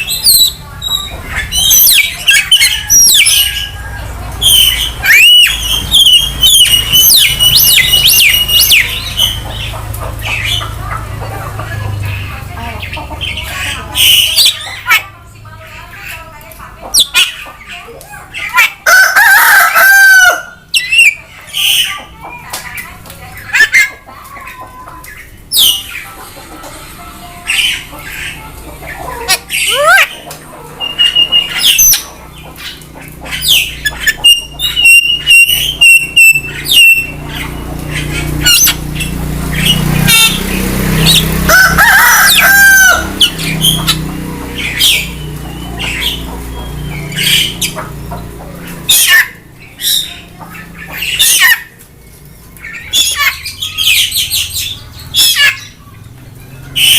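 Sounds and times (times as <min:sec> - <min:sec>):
myna bird calling: 0:00.0 - 0:15.2, 0:15.8 - 0:56.9.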